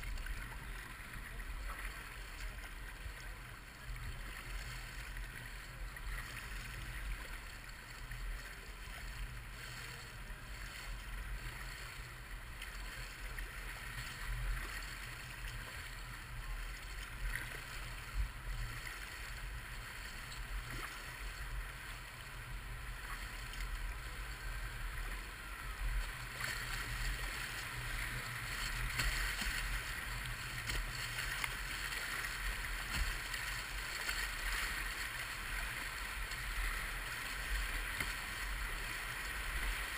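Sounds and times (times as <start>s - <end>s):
river water rushing and splashing: 0.0s - 39.9s.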